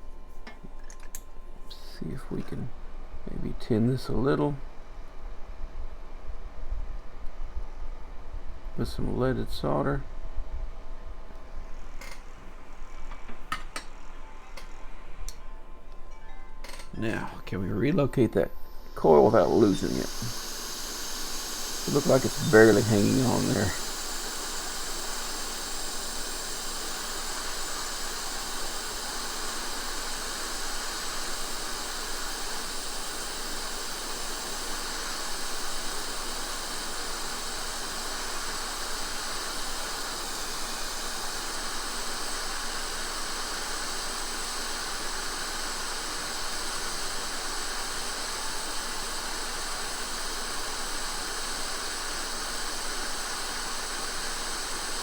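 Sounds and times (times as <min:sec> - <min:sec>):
hot air station blowing hiss: 0:00.0 - 0:55.0.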